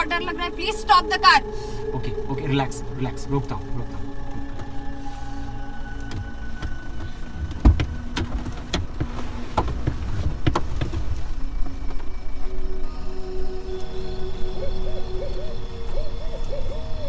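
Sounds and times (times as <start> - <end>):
car low rumble: 0.0 - 17.0.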